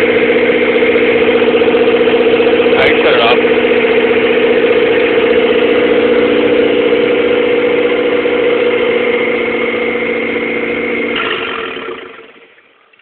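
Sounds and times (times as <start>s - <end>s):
car engine rough idle: 0.0s - 13.0s.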